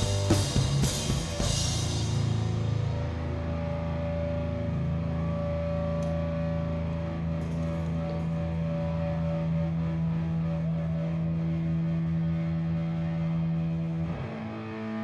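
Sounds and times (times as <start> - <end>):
distorted electric guitar and bass chord: 0.0 - 15.0.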